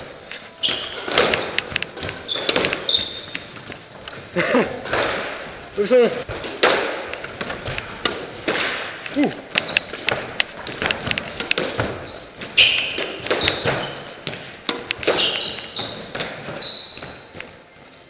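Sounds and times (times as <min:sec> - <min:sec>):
squash ball cracking off rackets and walls: 0:00.0 - 0:17.5
shoes squeaking on wooden floor: 0:00.0 - 0:18.0.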